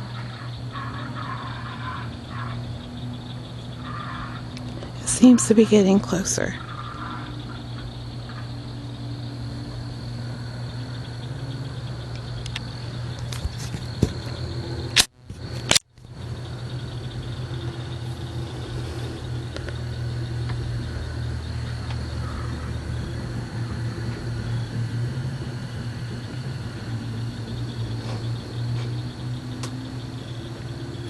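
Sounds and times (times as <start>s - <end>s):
crickets trilling: 0.0s - 31.0s
low mechanical hum: 0.0s - 31.0s.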